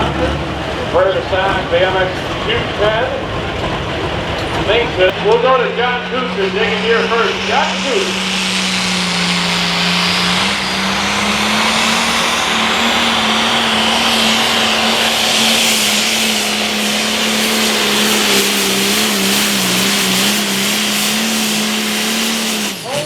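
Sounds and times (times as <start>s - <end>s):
diesel tractor engine running flat out: 0.0s - 23.0s.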